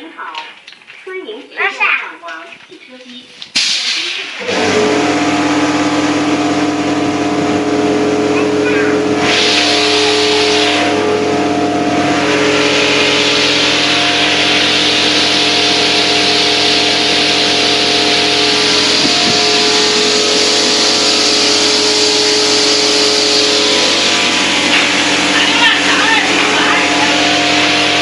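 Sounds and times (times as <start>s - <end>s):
car wash machine hissing: 3.4s - 28.0s
machinery humming: 3.6s - 28.0s.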